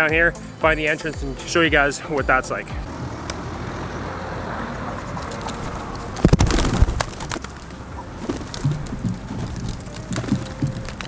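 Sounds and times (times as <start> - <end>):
outdoor background noise: 0.0 - 11.0
pigeons cooing: 0.0 - 11.0.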